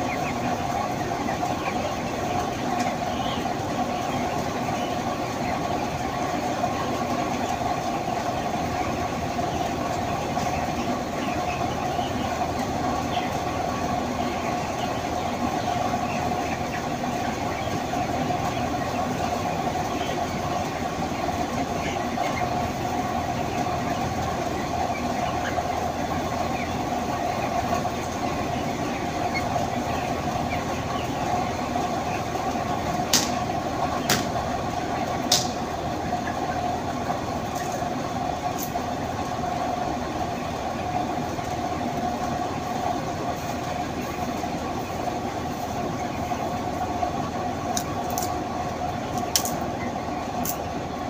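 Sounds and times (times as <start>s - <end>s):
chickens calling: 0.0s - 51.0s
steady mechanical hum: 0.0s - 51.0s.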